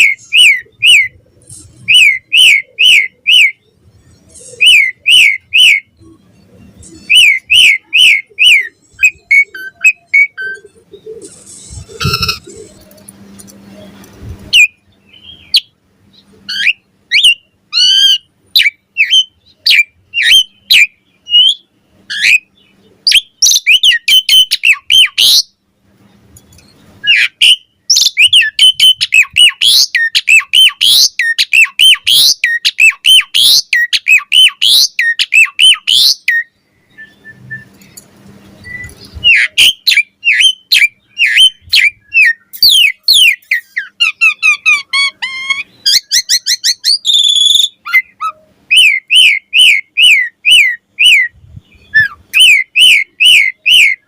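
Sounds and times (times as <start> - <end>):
starling singing: 0.0 - 25.6, 26.5 - 54.0.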